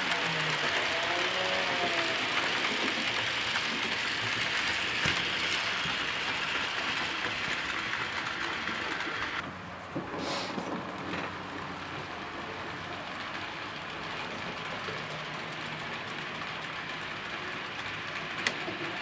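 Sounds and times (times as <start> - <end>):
model train wheels on rail: 0.0 - 19.0.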